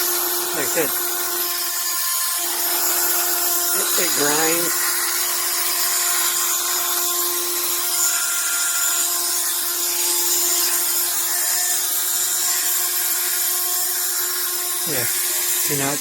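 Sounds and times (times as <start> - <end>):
rotary tool motor humming: 0.0 - 16.0.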